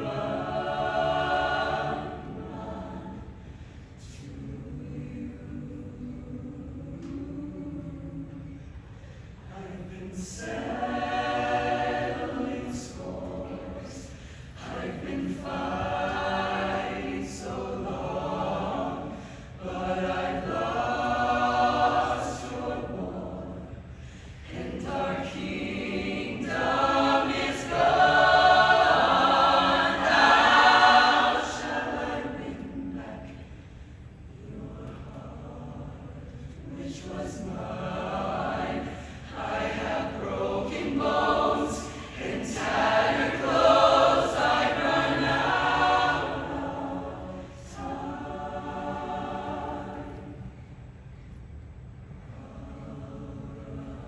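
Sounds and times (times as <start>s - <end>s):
show choir singing: 0.0s - 8.7s, 9.4s - 33.7s, 34.4s - 50.6s, 52.2s - 54.0s.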